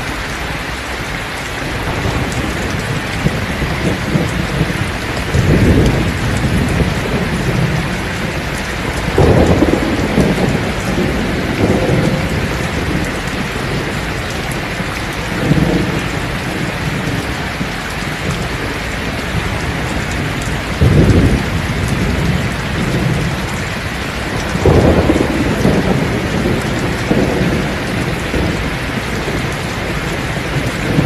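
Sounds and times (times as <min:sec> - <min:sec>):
heavy rain pouring: 0:00.0 - 0:31.0
thunder rumbling: 0:01.4 - 0:31.0.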